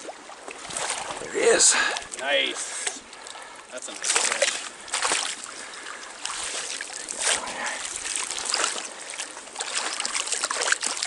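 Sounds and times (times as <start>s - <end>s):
stream water trickling: 0.0s - 11.0s.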